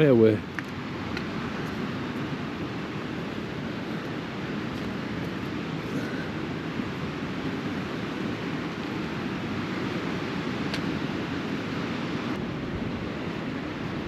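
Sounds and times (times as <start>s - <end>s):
surf washing on shore: 0.0s - 14.0s
wind on microphone: 0.0s - 14.0s.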